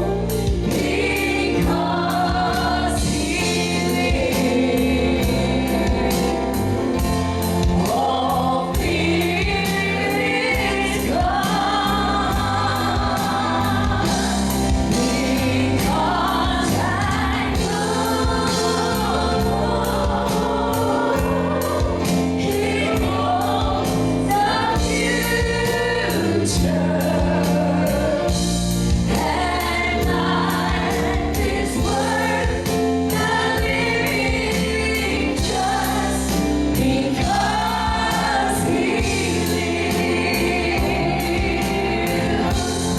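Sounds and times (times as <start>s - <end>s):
band accompaniment: 0.0s - 42.9s
gospel choir singing: 0.0s - 42.9s.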